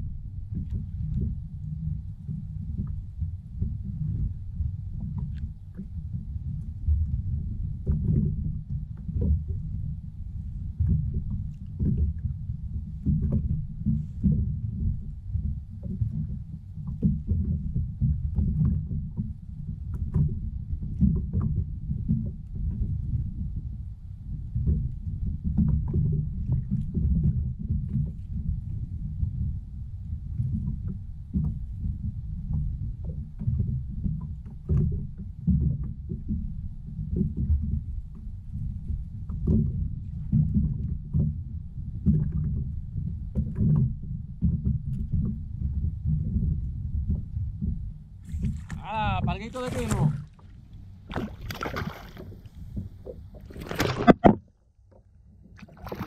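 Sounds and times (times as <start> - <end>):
water lapping against kayak hull: 0.0 - 23.7, 24.4 - 56.0
low rumble: 0.0 - 56.0.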